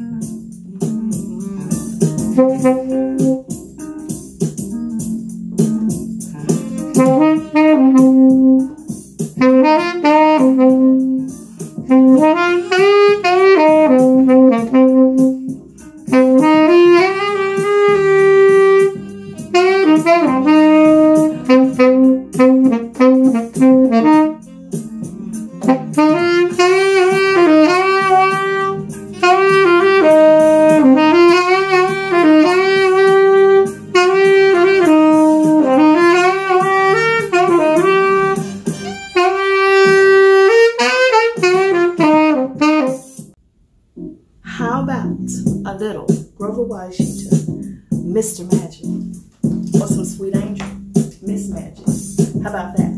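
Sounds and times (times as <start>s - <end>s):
tenor saxophone melody: 0.0s - 43.4s.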